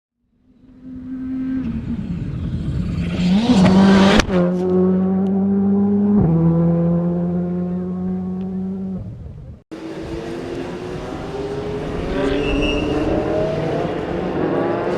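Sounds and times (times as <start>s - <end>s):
race car engine accelerating: 0.7s - 9.1s, 9.7s - 14.9s.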